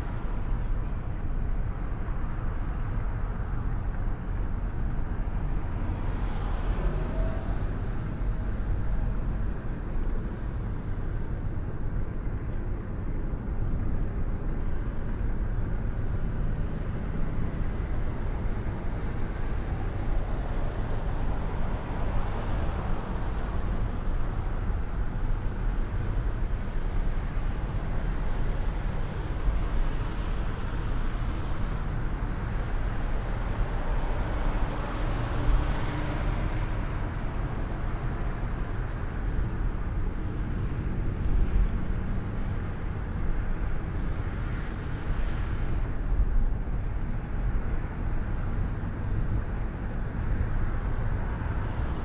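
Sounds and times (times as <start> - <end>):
cars passing: 0.0 - 12.3, 15.0 - 52.0.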